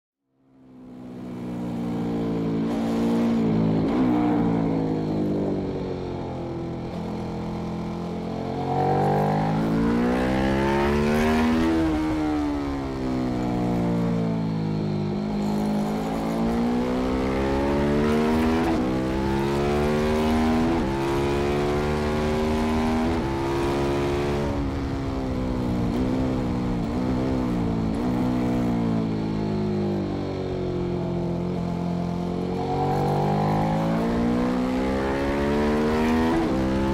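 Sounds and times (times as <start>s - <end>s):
motorcycle engine revving: 1.2s - 36.9s.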